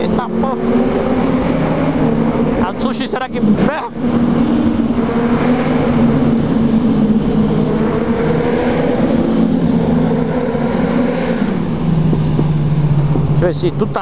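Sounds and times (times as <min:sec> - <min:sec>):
motorcycle engine cruising: 0:00.0 - 0:14.0
wind rush: 0:00.0 - 0:14.0.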